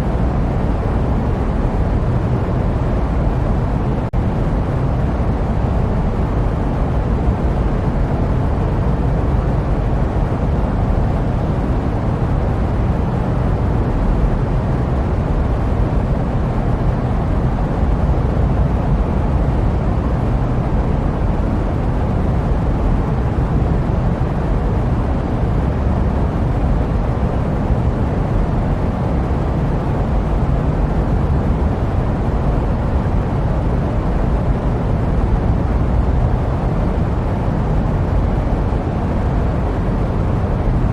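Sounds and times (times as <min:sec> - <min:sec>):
jet engine rumble: 0:00.0 - 0:40.9.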